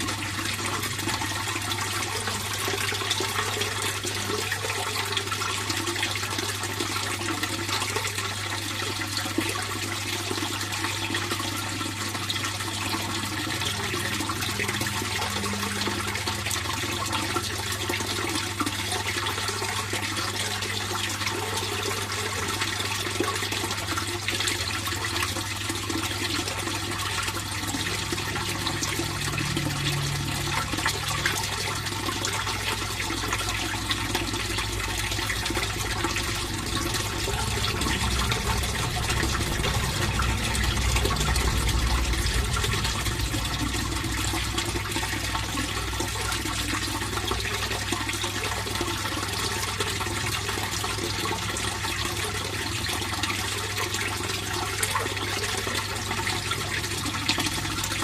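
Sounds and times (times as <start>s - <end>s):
low steady hum: 0.0s - 58.0s
pond water flowing and splashing: 0.0s - 58.0s.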